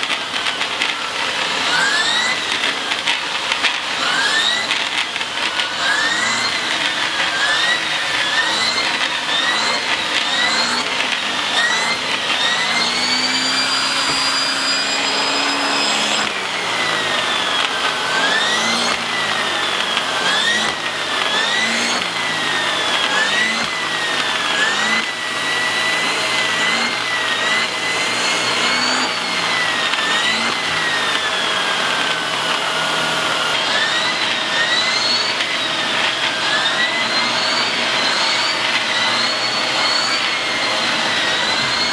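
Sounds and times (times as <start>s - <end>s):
vacuum cleaner motor whine: 0.0s - 41.9s.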